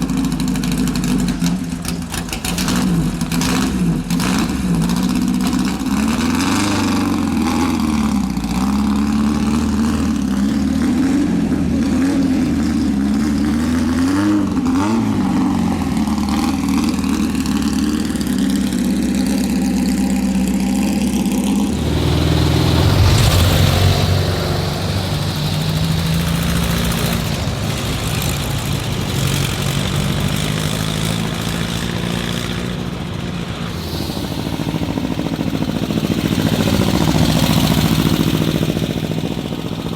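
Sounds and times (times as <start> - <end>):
deeper louder car engine: 0.0 - 39.9
old car engines revving: 0.0 - 39.9.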